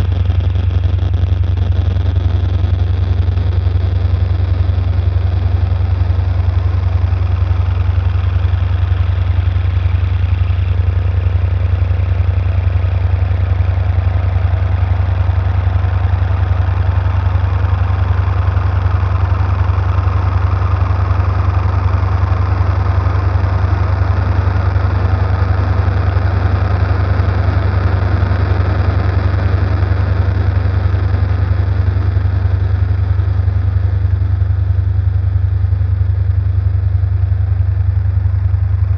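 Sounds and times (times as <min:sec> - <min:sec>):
hissing engine-like haze: 0:00.0 - 0:38.9
low electronic drone: 0:00.0 - 0:38.9.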